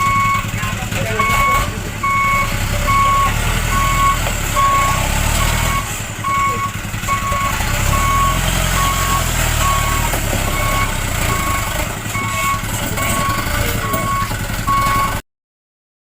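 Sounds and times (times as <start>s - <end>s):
diesel engine rumble: 0.0s - 15.2s
truck reversing alarm beeping: 0.0s - 15.2s.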